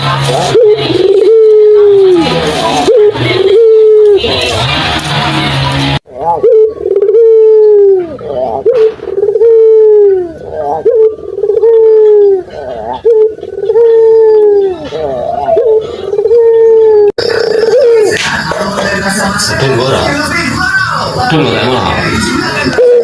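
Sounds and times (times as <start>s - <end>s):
dove cooing: 0.0s - 4.9s, 6.0s - 23.0s.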